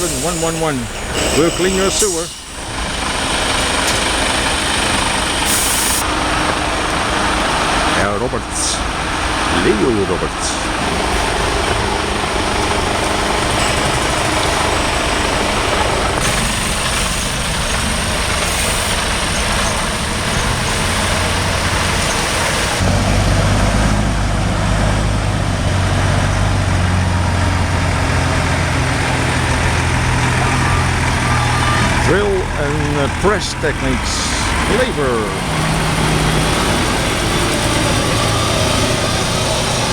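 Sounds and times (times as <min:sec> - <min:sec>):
close truck engine low hum: 0:00.0 - 0:39.9
diesel truck engines passing: 0:00.0 - 0:39.9.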